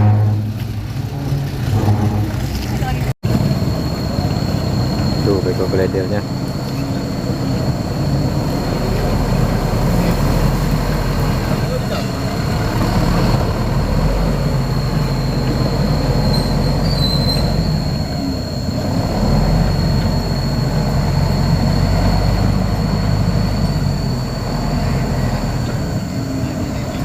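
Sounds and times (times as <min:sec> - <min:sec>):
diesel engine under load: 0:00.0 - 0:27.0
high-pitched squeal: 0:00.0 - 0:27.0.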